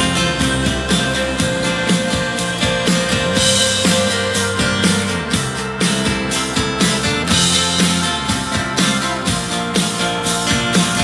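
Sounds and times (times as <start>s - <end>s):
guitar music with drum beat: 0.0s - 11.0s.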